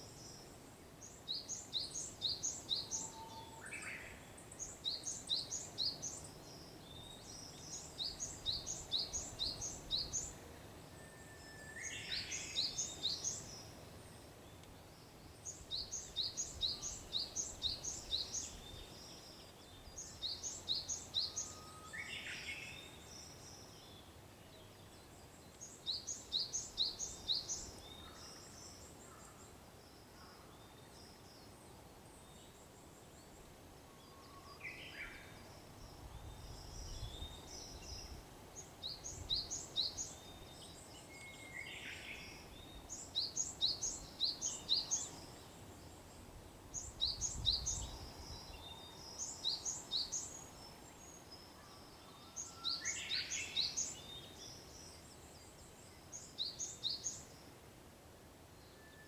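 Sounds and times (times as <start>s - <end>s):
bush warbler whistled song: 0.0s - 13.8s, 14.4s - 29.0s, 32.2s - 57.6s.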